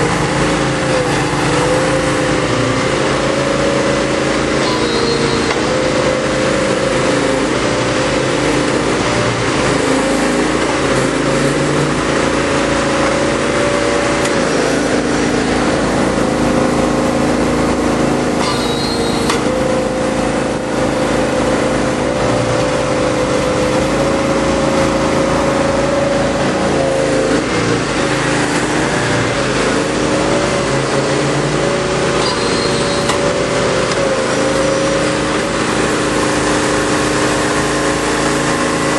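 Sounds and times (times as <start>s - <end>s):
block press engine running: 0.0s - 38.9s.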